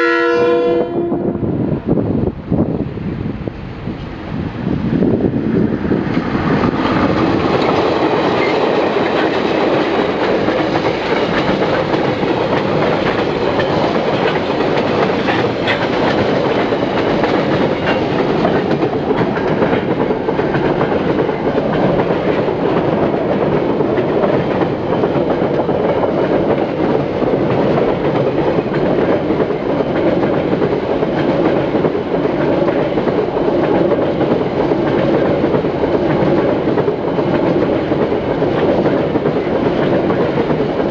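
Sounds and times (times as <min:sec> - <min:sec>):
diesel locomotives passing: 0:00.0 - 0:40.9
wheels clacking over rail joints: 0:06.0 - 0:40.9.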